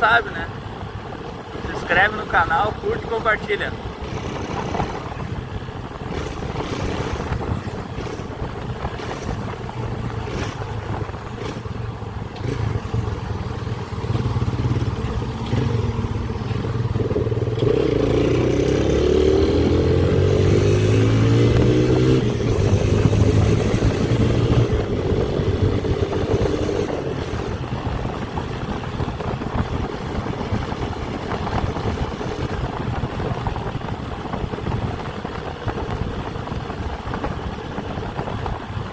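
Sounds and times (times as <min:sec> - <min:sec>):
motorcycle engine running: 0:00.0 - 0:38.9
wind noise: 0:00.9 - 0:38.9.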